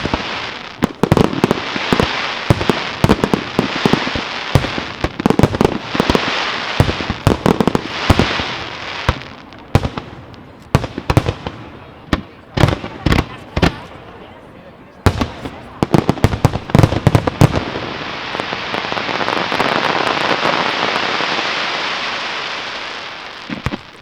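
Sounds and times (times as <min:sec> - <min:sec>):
fireworks crackle: 0:00.0 - 0:24.0.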